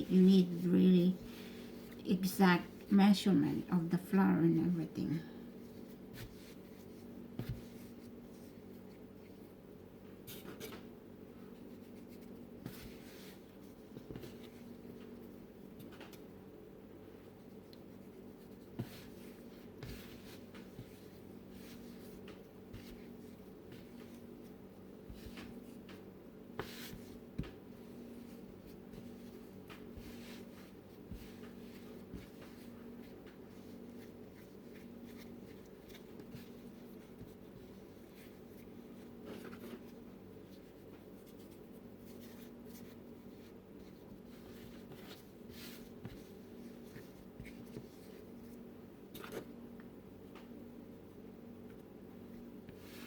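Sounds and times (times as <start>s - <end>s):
hands kneading dough: 0.0s - 16.4s, 17.0s - 48.7s, 51.2s - 53.0s
steady low hum: 0.0s - 53.0s.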